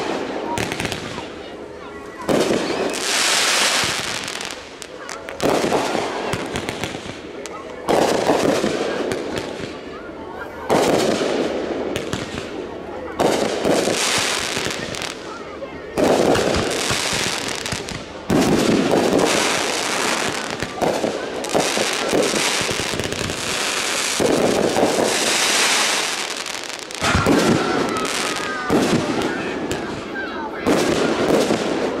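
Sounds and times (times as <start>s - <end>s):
fireworks bangs: 0.0s - 10.0s, 10.6s - 32.0s
crackling hiss of fireworks: 0.0s - 32.0s.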